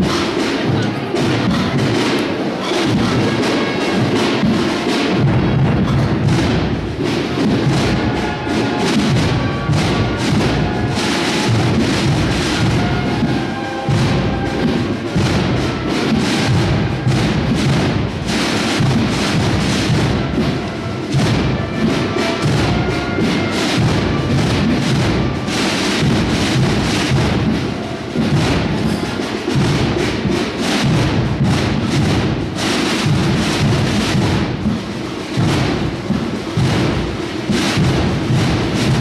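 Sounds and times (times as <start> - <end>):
drums beating a march: 0.0 - 39.0.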